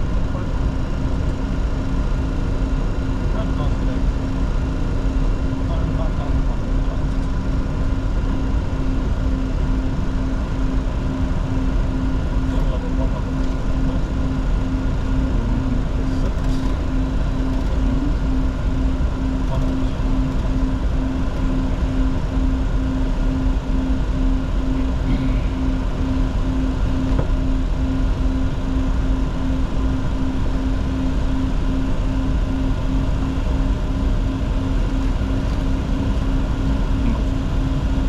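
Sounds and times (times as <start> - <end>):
jet engine and airflow rumble: 0.0 - 38.0
low pulsing tone: 0.0 - 38.0.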